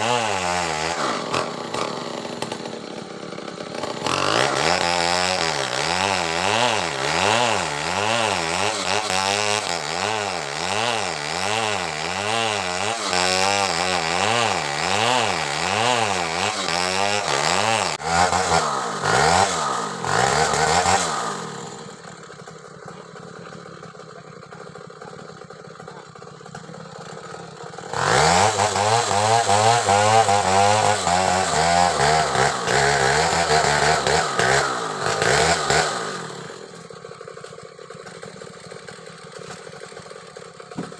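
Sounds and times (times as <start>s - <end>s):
chainsaw cutting wood: 0.0s - 40.9s
chainsaw idling: 0.0s - 40.9s.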